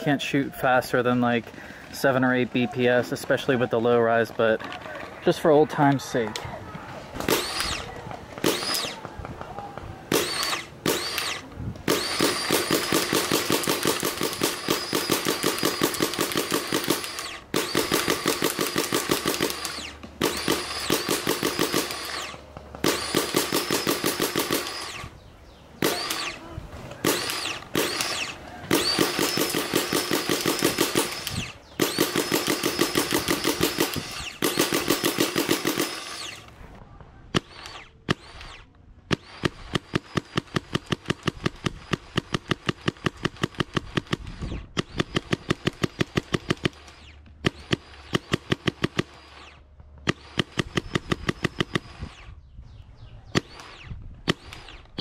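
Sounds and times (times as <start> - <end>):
paintball marker rapid firing: 7.2 - 25.1, 25.8 - 26.4, 27.0 - 36.5, 37.3 - 52.3, 53.3 - 55.0.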